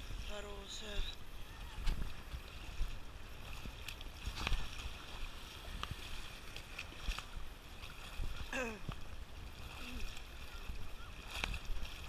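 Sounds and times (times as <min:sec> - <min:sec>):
sea water splashing and lapping: 0:00.0 - 0:12.0
wind rumbling on microphone: 0:00.0 - 0:12.0.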